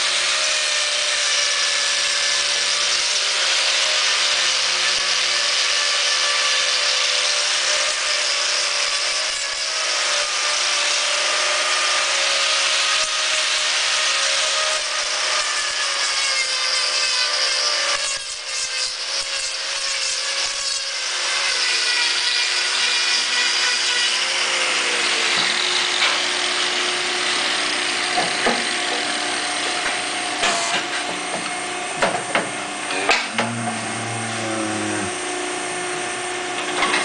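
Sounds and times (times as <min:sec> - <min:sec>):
angle grinder grinding hoof: 0:00.0 - 0:37.0.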